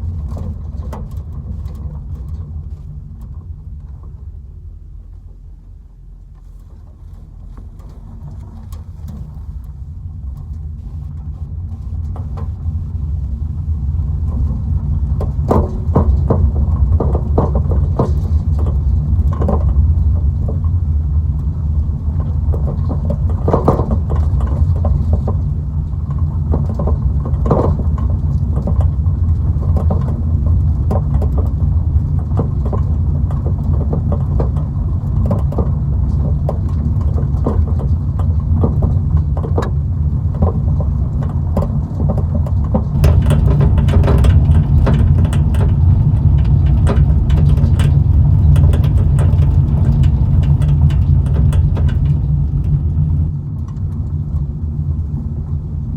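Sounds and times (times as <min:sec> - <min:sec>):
small clicks and rattles: 0:00.0 - 0:04.2, 0:06.3 - 0:12.8, 0:14.2 - 0:54.5
road and engine rumble: 0:00.0 - 0:55.9.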